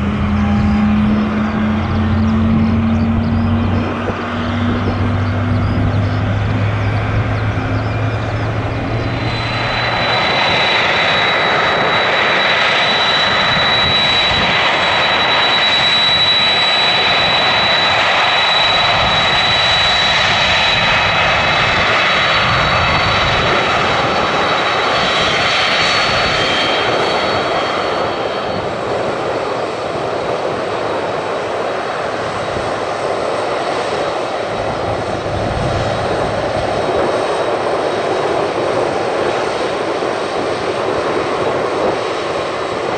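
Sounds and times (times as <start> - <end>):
airliner engines roaring: 0.0 - 42.9.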